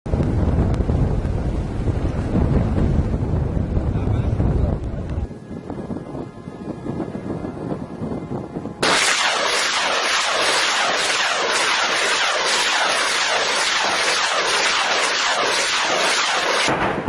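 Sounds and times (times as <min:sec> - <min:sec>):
rocket motors roaring: 0:00.1 - 0:06.2, 0:08.8 - 0:17.0
low wind rumble: 0:00.1 - 0:17.0.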